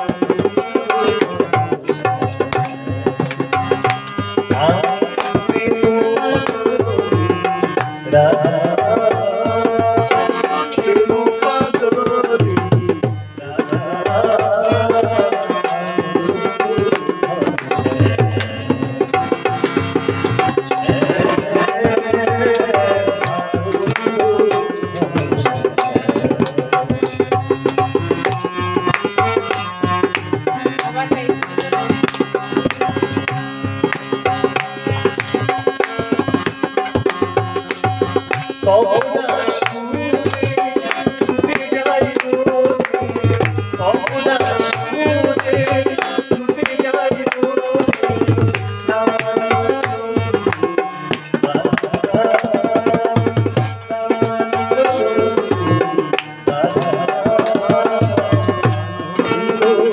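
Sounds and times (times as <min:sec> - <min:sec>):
fast hand drum rhythm: 0:00.0 - 0:59.9
held instrument notes: 0:00.0 - 0:59.9
man singing into microphone: 0:00.0 - 0:59.9.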